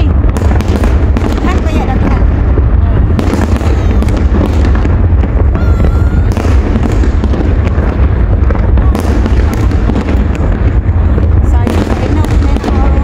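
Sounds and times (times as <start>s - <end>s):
fireworks bangs and crackles: 0.0s - 13.0s
heavy low rumble: 0.0s - 13.0s.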